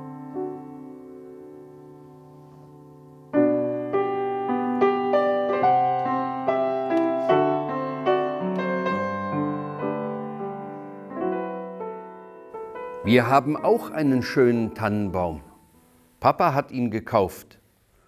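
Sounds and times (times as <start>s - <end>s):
solo piano melody: 0.0s - 16.2s.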